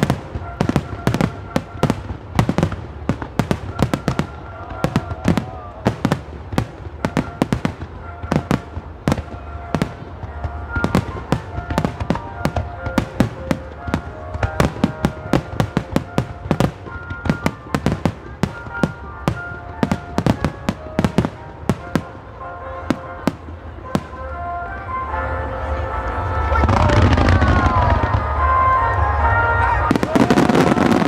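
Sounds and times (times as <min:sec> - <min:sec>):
fireworks bursting: 0:00.0 - 0:25.3, 0:26.2 - 0:31.0
music: 0:00.0 - 0:31.0.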